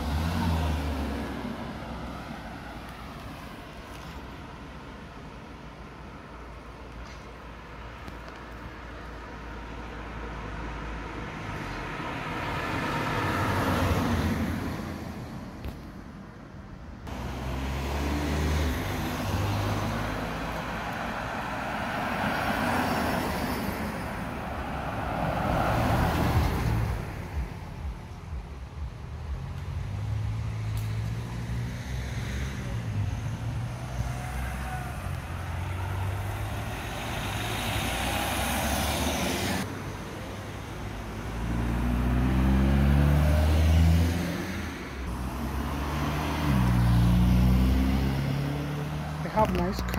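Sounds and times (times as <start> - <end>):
cars passing on road: 0.0 - 49.9.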